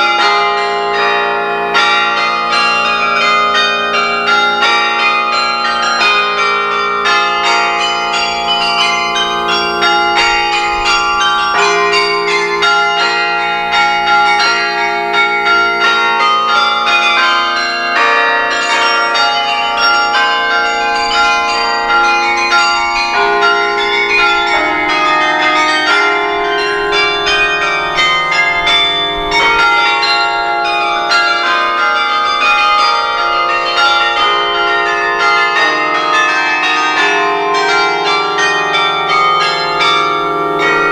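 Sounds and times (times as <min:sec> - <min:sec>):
carillon bells playing carol melody: 0:00.0 - 0:40.9.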